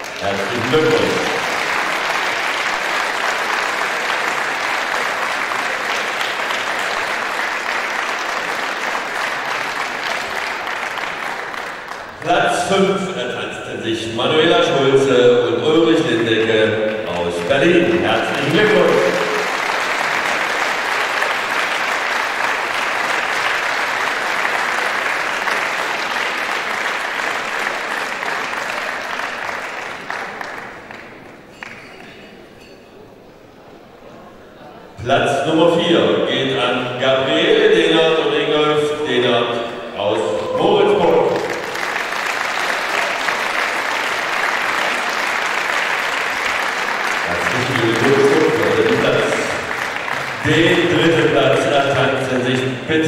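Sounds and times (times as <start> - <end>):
crowd applauding: 0.0 - 32.4, 36.0 - 53.0.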